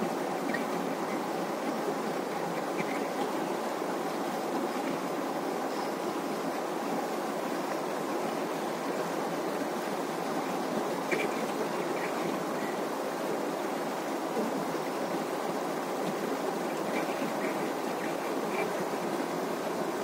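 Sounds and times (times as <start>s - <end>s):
river water rushing over rocks: 0.0s - 20.0s.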